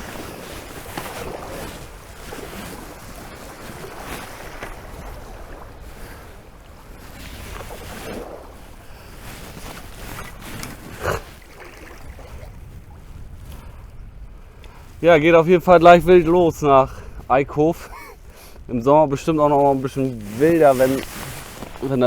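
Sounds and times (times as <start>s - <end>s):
paddle strokes splashing: 0.0s - 13.7s, 17.9s - 22.0s
wind buffeting microphone: 0.0s - 22.0s.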